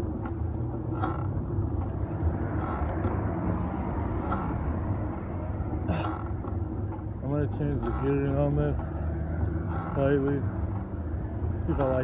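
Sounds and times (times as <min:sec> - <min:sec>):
wind and tyres on road: 0:00.0 - 0:12.0.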